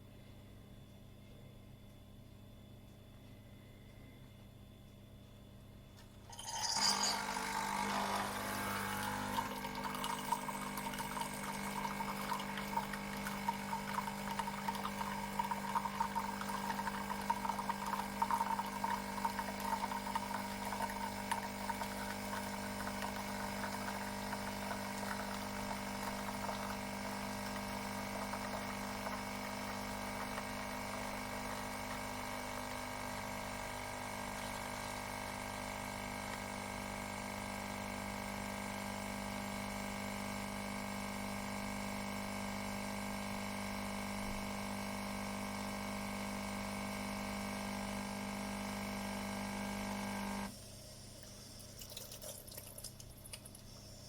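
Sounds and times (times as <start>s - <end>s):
coffee machine pump humming: 6.0s - 54.0s.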